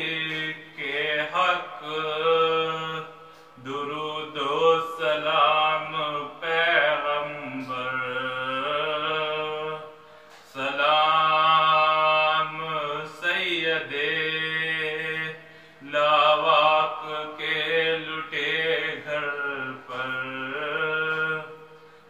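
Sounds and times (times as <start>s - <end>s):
man chanting unaccompanied: 0.0s - 21.8s.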